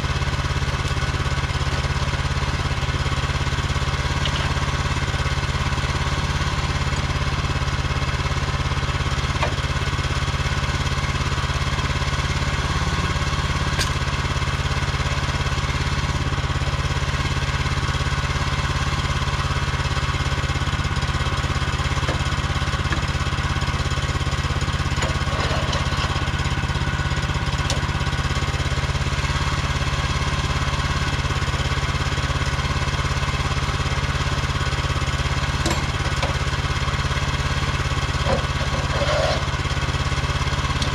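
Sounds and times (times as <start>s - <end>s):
gas engine running steadily: 0.0s - 40.9s.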